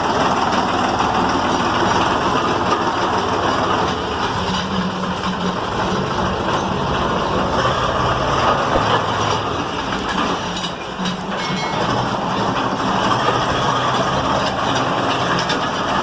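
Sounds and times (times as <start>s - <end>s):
tractor diesel engine drone: 0.0s - 16.0s
wide rushing noise: 0.0s - 16.0s.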